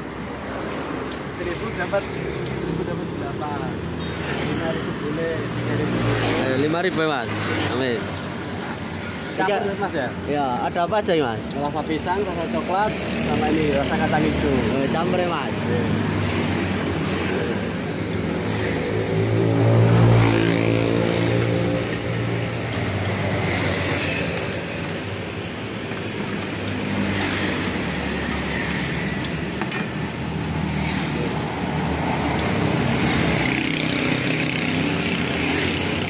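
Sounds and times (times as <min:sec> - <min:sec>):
vehicles passing on road: 0:00.0 - 0:36.0.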